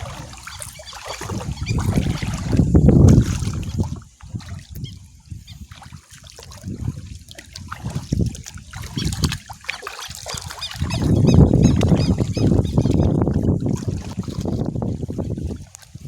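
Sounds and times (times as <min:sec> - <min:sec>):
wading through splashing water: 0:00.0 - 0:16.0.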